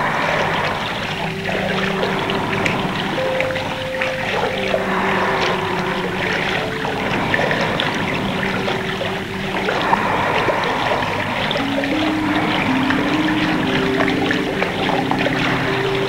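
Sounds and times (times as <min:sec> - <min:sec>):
low held notes: 0:00.0 - 0:16.0
water trickling and splashing: 0:00.0 - 0:16.0.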